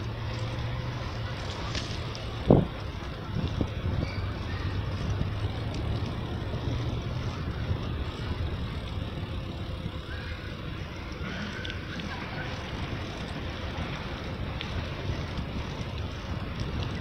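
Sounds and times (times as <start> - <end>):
wind buffeting microphone: 0.8 - 17.0.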